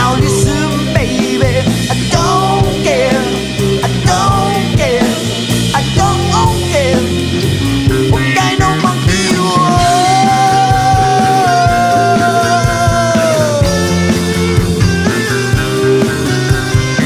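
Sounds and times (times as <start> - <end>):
person singing: 0.0 - 14.6
bass line: 0.0 - 17.0
drum beat: 0.0 - 17.0.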